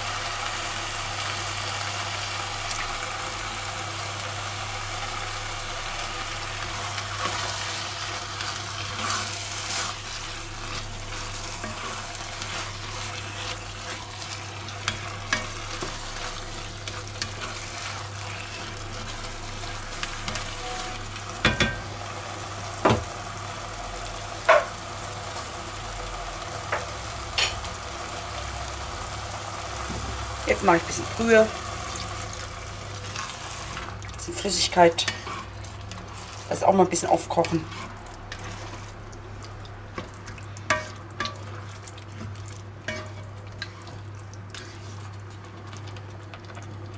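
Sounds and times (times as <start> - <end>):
vegetables sizzling in a pot: 0.0 - 46.9.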